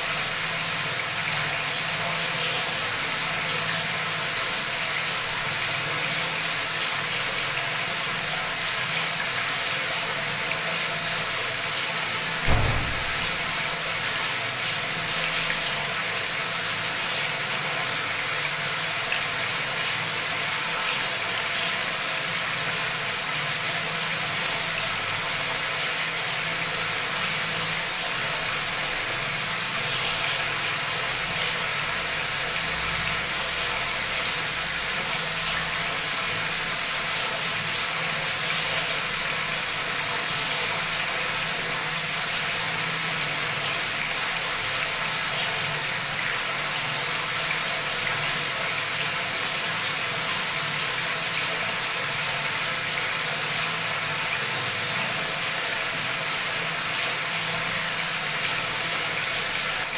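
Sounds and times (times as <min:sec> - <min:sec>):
tap water gushing into tub: 0:00.0 - 0:59.9.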